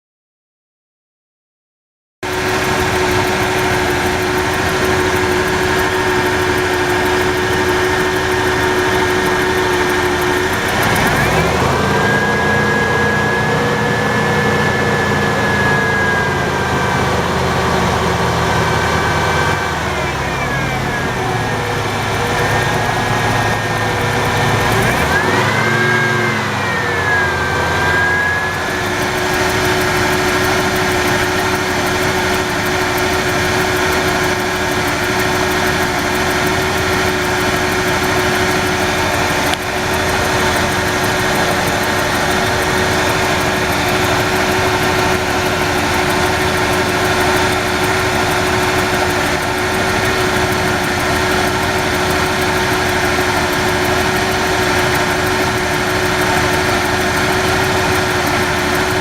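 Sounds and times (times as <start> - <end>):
engine running: 2.2 - 59.0.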